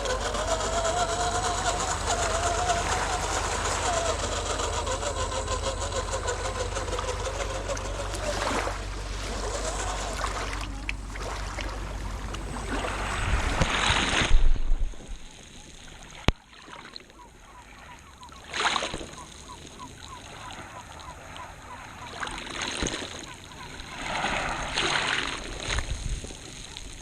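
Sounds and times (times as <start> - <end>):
toy car splashing through water: 0.0 - 14.5, 18.4 - 27.0.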